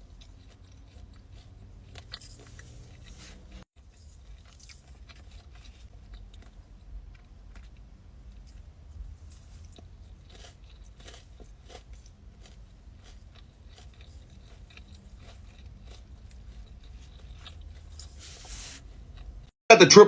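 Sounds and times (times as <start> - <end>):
person chewing crunchy food: 0.0 - 19.4.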